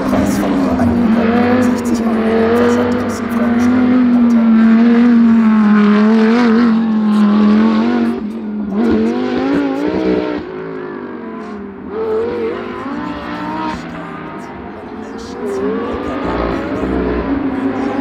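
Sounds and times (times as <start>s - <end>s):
race car engines passing: 0.0s - 18.0s.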